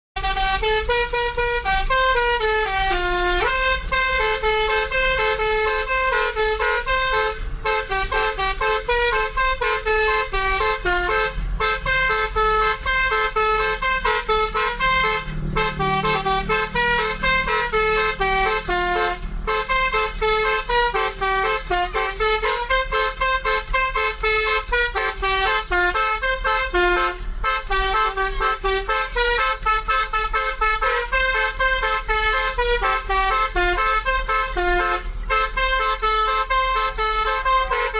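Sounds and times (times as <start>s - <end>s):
low engine rumble: 0.2s - 37.9s
multi-tone bus air horns melody: 0.2s - 37.9s.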